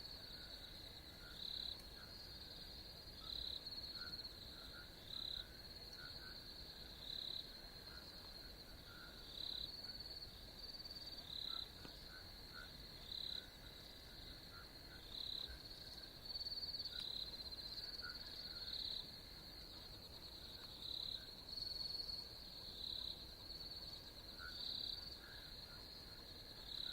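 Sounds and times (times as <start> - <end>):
insects trilling: 0.1 - 26.9.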